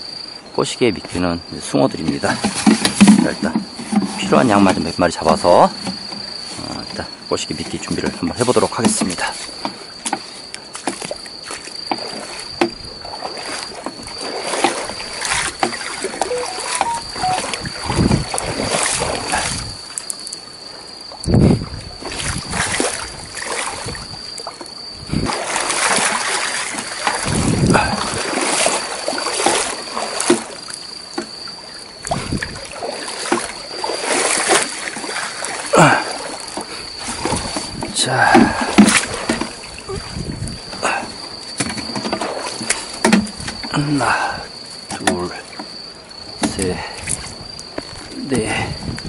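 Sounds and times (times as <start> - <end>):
seawater splashing and sloshing: 2.0 - 20.0, 21.4 - 43.7.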